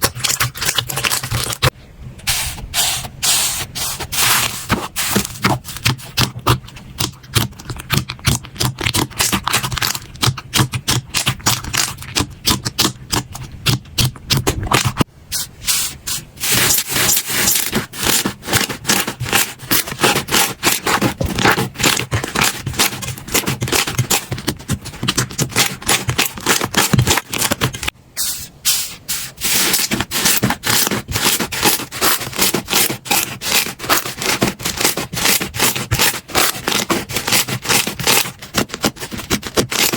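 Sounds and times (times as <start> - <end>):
slime squishing and crackling: 0.0 - 1.7, 4.0 - 15.1, 16.4 - 27.9, 29.5 - 39.9.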